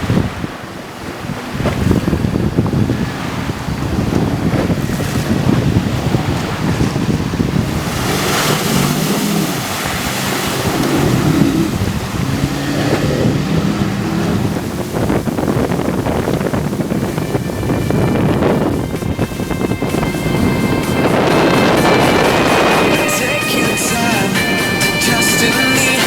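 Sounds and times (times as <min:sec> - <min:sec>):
outboard motor running: 0:00.0 - 0:26.0
water rushing past boat hull: 0:00.0 - 0:26.0
wind buffeting microphone: 0:00.0 - 0:26.0.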